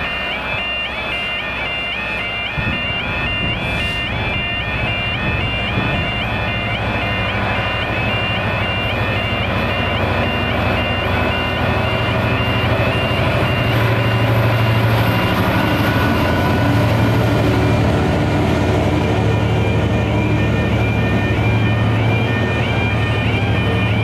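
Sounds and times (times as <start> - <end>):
diesel locomotive engine drone: 0.0 - 24.0
level crossing two-tone alarm: 0.0 - 24.0.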